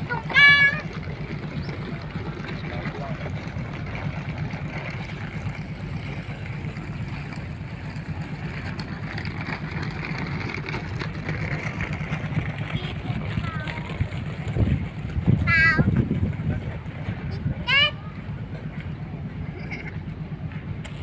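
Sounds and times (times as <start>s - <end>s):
boat engine throbbing: 0.0s - 21.0s
water noise: 0.0s - 21.0s.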